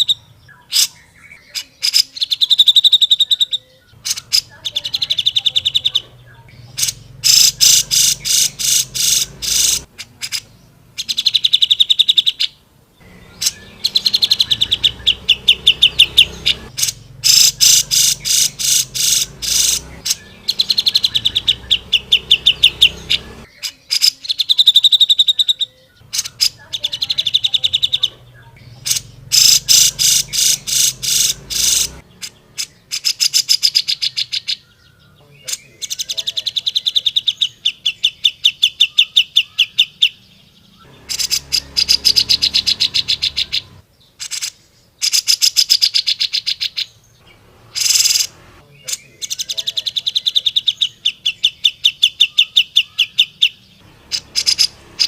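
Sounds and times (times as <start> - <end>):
bulbul chattering song: 0.0 - 55.0.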